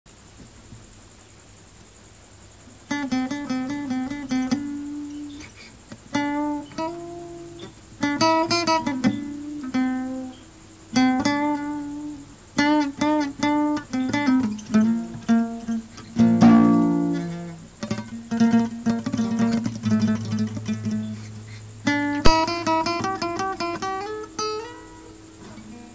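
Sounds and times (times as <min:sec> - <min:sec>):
acoustic guitar music: 0:02.9 - 0:25.9.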